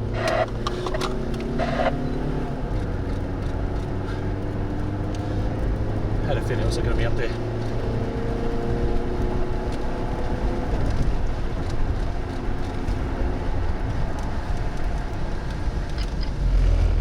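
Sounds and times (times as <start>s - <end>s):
road and engine rumble inside vehicle: 0.0s - 17.0s.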